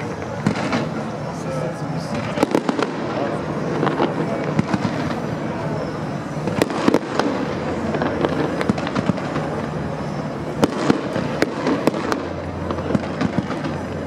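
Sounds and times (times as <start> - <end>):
dense fireworks noise: 0.0 - 14.0
fireworks bangs: 0.0 - 14.0.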